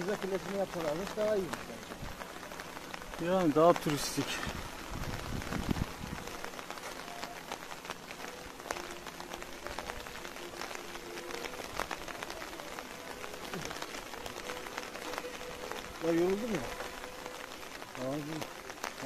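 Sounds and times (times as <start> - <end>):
sharp ticks of raindrops: 0.0 - 19.0
steady rain falling: 0.0 - 19.0.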